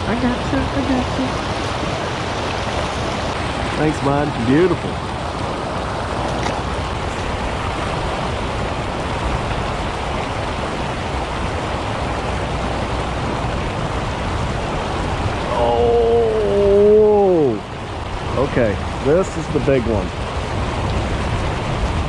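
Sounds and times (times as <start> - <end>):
flowing creek water: 0.0 - 22.0.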